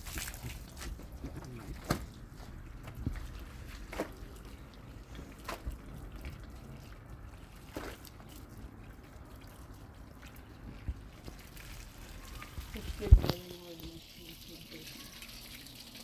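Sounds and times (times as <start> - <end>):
short water splashes: 0.0 - 16.0
water trickling and dripping: 0.0 - 16.0.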